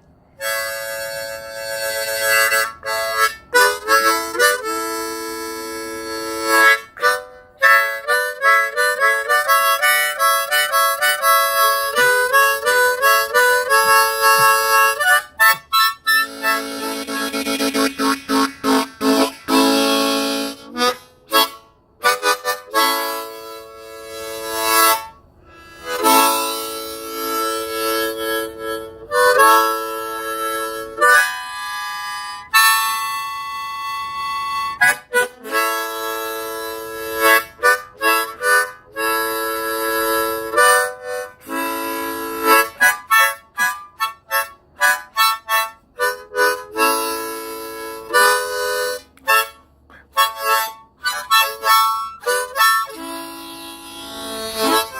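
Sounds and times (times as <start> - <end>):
harmonica music: 0.0 - 54.9.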